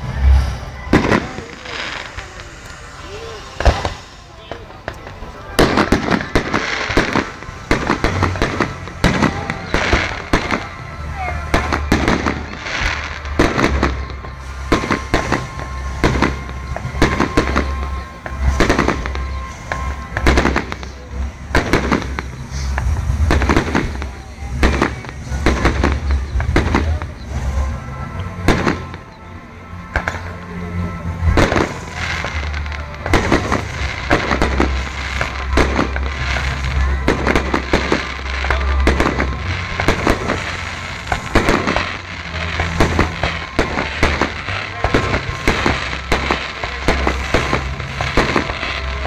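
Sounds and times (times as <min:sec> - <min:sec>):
fireworks bangs: 0:00.0 - 0:49.0
low rumble: 0:00.0 - 0:49.0.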